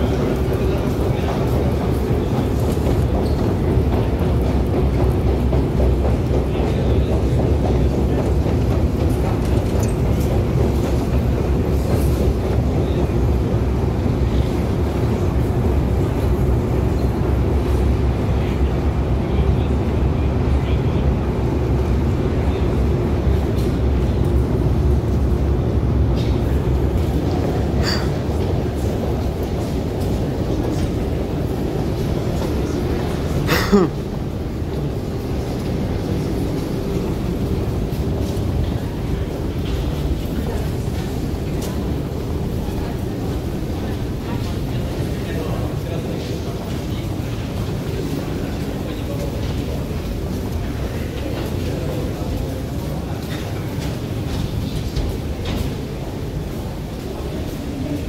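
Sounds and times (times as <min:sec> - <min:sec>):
low rumble of busy corridor: 0:00.0 - 0:58.0
people walking: 0:00.0 - 0:58.0.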